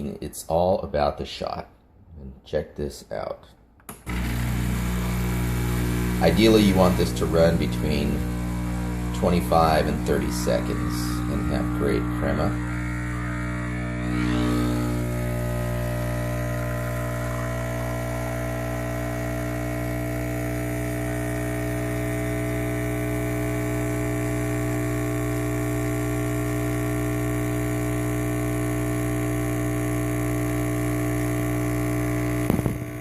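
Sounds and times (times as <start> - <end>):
espresso machine pump humming: 3.9 - 33.0.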